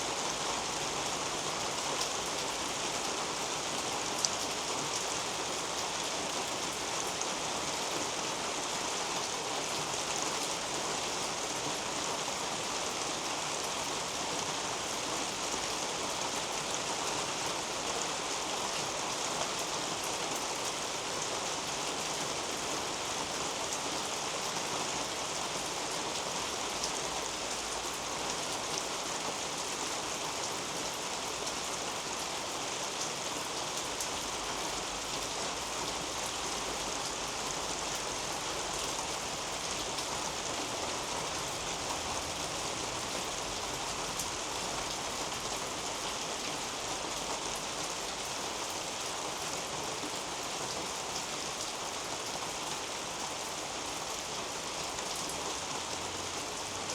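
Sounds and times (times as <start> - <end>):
rain on leaves: 0.0 - 56.9.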